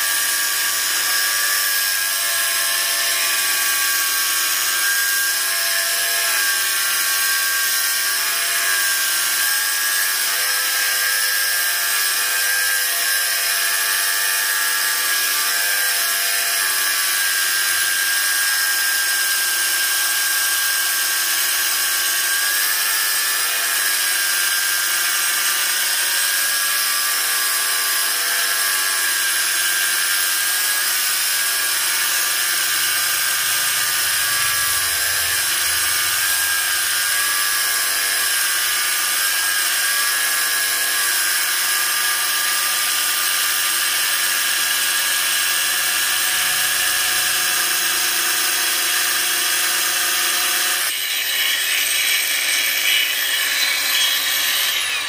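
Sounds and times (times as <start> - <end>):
angle grinder cutting steel: 0.0 - 55.0.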